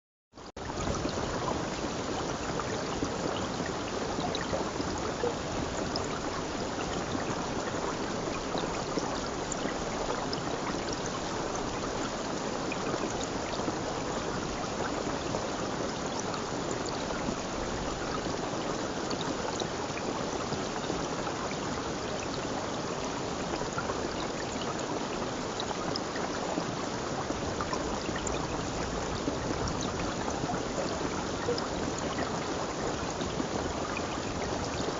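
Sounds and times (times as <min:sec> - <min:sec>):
stream water flowing: 0:00.5 - 0:34.9.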